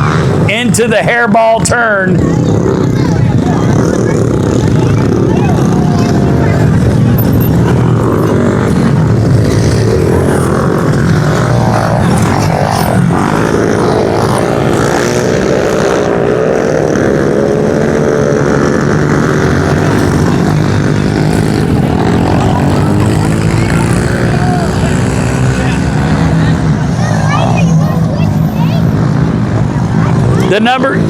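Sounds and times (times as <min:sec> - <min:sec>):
pit bike engines racing: 0:00.0 - 0:31.0.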